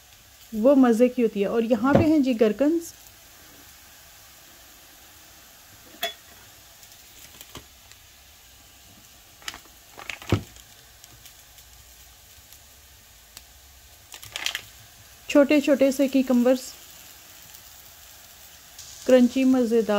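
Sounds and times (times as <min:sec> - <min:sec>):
food sizzling in a pan: 0:00.0 - 0:19.9.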